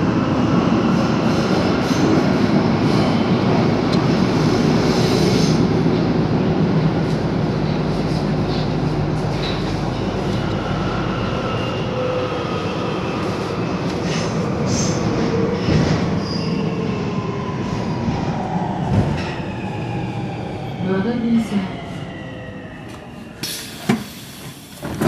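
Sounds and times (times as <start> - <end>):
metro train rumble: 0.0 - 25.0.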